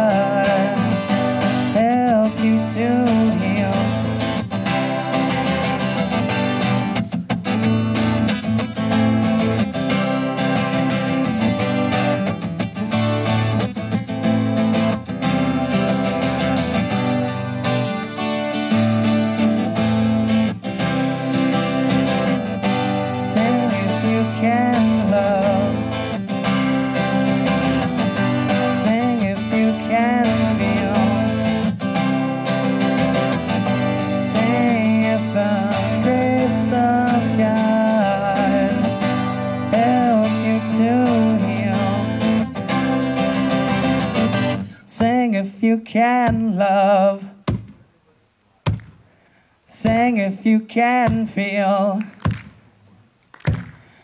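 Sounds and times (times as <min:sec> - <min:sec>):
acoustic guitar strumming: 0:00.0 - 0:47.9, 0:48.7 - 0:52.8.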